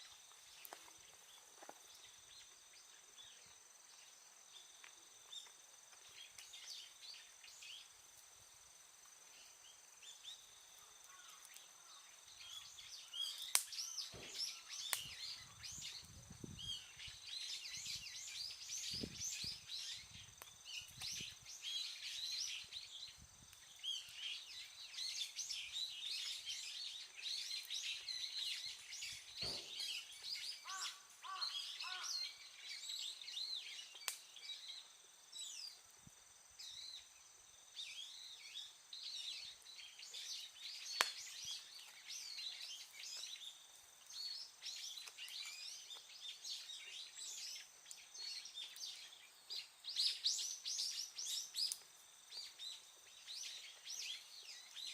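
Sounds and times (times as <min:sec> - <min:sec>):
small birds chirping: 0:00.0 - 0:08.3, 0:09.0 - 0:54.9.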